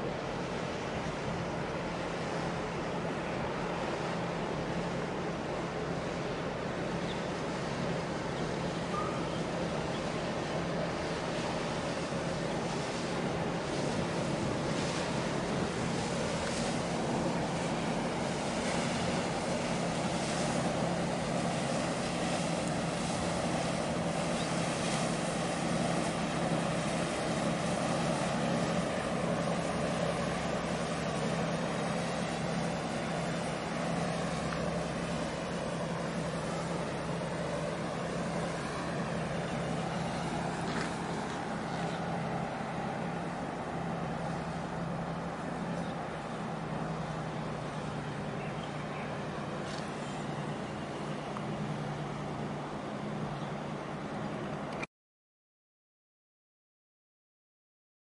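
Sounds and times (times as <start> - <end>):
diesel boat engines droning: 0.0 - 54.9
water wash: 0.0 - 54.9.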